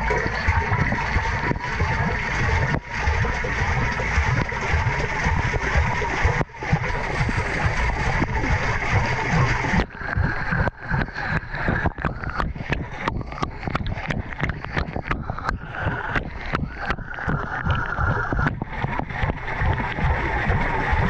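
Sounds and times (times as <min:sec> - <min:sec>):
water sloshing in washing machine: 0:00.0 - 0:21.0.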